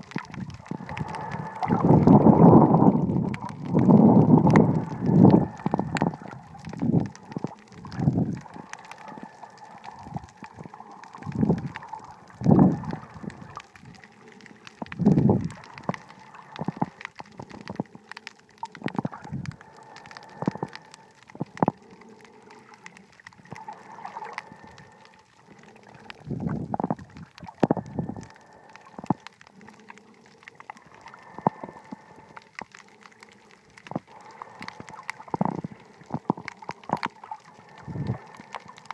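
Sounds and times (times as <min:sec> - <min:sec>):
water gurgling underwater: 0:00.0 - 0:38.9.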